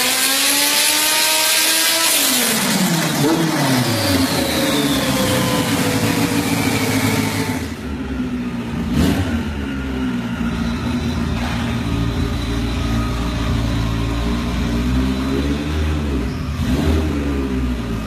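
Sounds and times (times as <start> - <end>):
engine revs winding down: 0.0 - 18.0
engine idling: 2.8 - 18.0.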